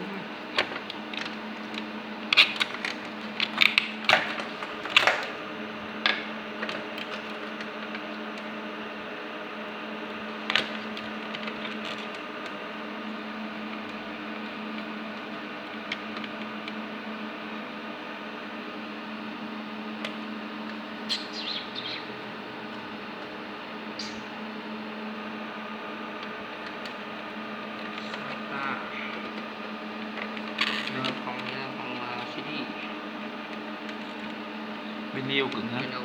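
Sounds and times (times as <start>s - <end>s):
electrical machine hum: 0.0s - 36.0s.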